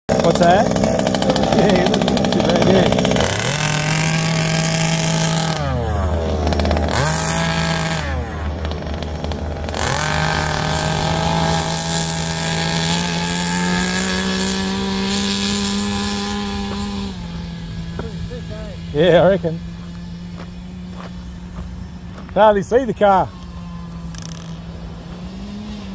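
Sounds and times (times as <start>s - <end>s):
small two-stroke engine revving: 0.1s - 25.9s.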